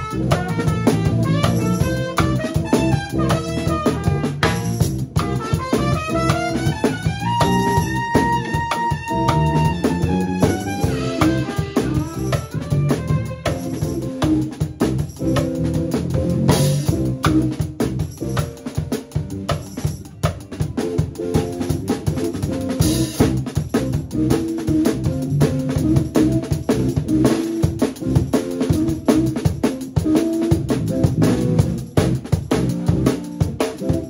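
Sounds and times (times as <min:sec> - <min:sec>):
bass line: 0:00.0 - 0:34.0
drum kit: 0:00.0 - 0:34.0
melodic lead line: 0:00.0 - 0:34.0.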